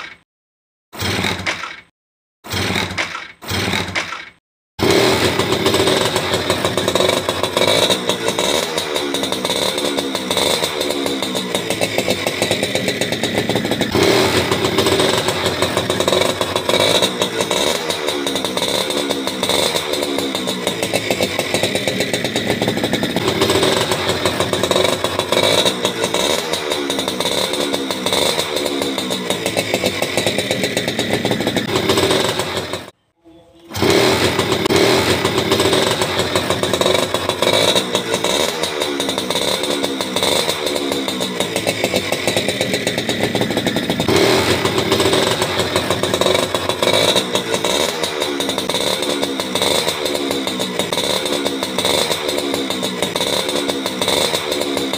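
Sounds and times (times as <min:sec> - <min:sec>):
motorcycle engine revving: 0:01.0 - 0:01.9, 0:02.5 - 0:33.0, 0:33.6 - 0:54.9.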